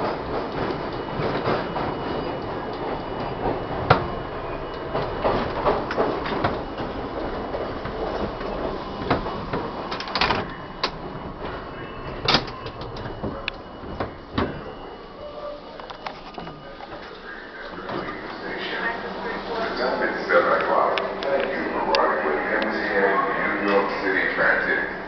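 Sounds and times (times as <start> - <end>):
subway car rumbling: 0.0 - 25.0.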